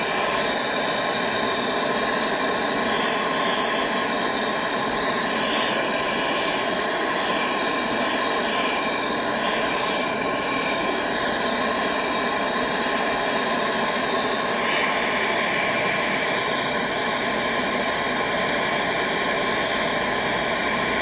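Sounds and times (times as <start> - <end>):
gas torch burning: 0.0 - 21.0.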